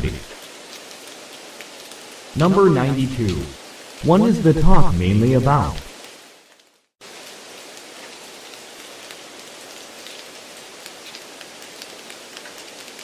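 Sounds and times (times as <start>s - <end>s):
raindrop ticks: 0.0s - 6.7s, 7.7s - 13.0s
steady rain: 0.0s - 13.0s.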